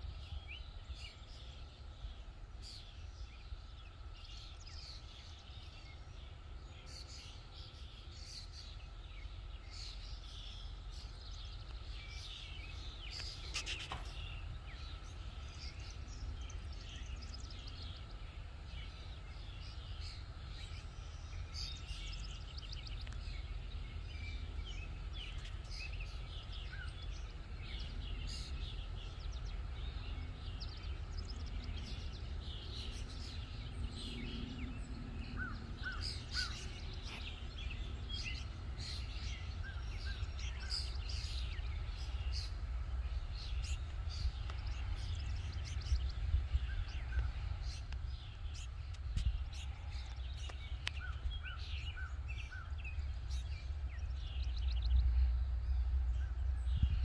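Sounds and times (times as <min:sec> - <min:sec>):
birds chirping: 0:00.0 - 0:57.0
low background rumble: 0:00.0 - 0:57.0.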